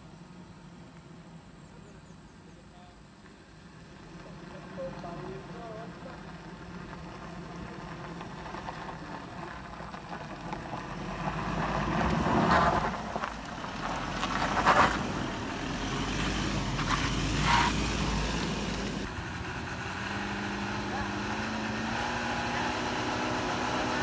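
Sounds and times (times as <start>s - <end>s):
vehicle engine on dirt road: 0.0s - 24.0s.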